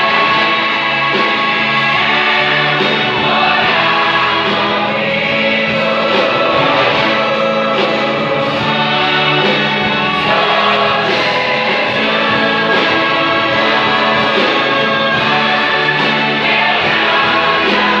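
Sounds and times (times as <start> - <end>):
instrumental accompaniment: 0.0 - 18.0
large choir singing: 0.0 - 18.0.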